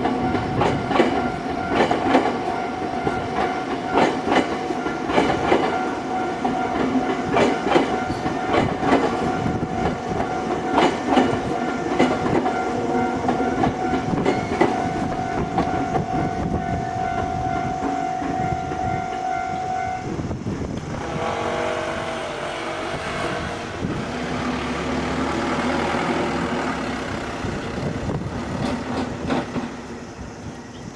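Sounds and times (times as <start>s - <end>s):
train wheels clacking over rail joints: 0.0s - 19.3s, 20.6s - 30.9s
steady train whine: 0.0s - 30.9s.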